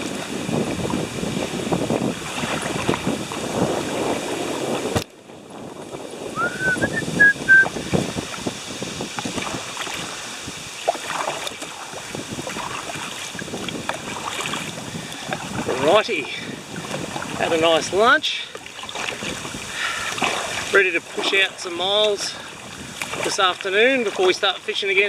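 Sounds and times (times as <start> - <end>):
paddle splashing in water: 0.0 - 25.0
wind on microphone: 0.0 - 25.0.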